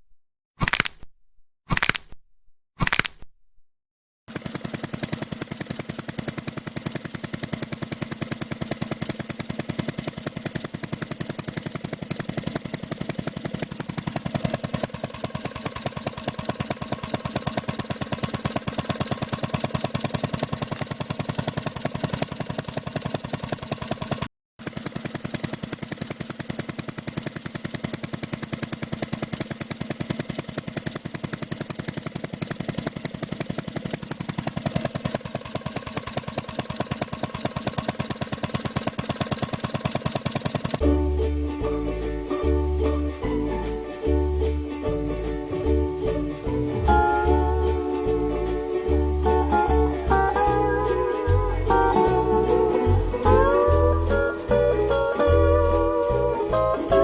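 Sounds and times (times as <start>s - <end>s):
small engine chugging: 4.3s - 57.0s.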